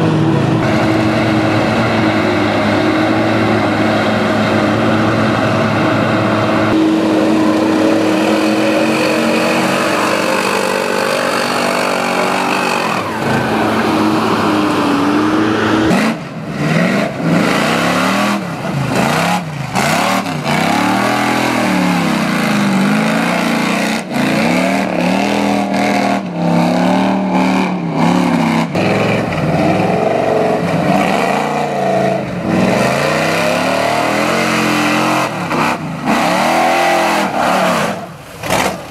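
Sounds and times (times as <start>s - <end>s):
truck engine revving: 0.0s - 38.9s
mud and water splashing: 7.0s - 38.9s.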